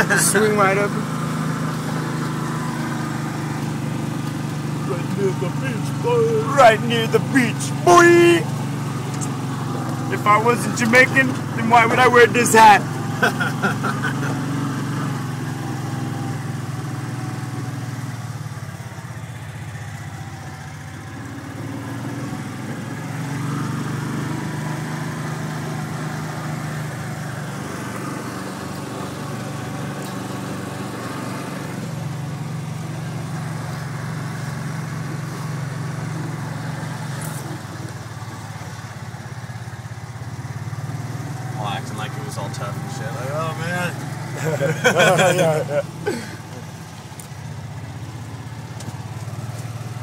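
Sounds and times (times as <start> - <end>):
vehicle engine running: 0.0 - 50.0.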